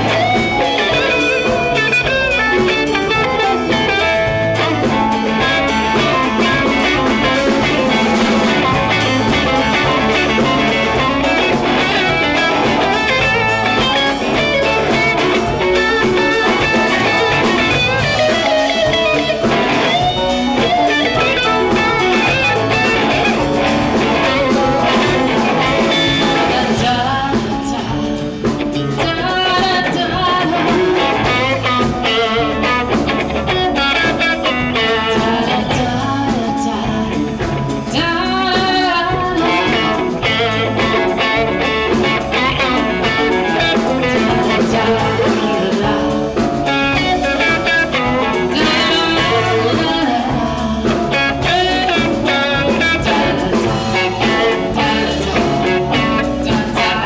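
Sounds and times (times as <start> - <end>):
drum kit: 0.0 - 57.0
electric bass: 0.0 - 57.0
electric guitar lead: 0.0 - 57.0.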